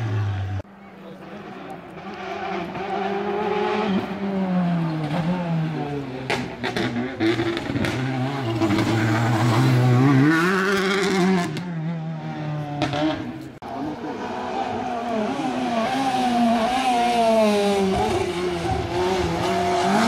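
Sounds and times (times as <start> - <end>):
rally car engine revving: 1.8 - 20.0.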